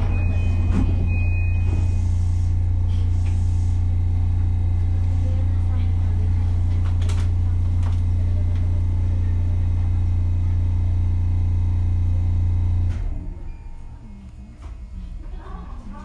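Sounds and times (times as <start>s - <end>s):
train interior hum: 0.0s - 16.0s.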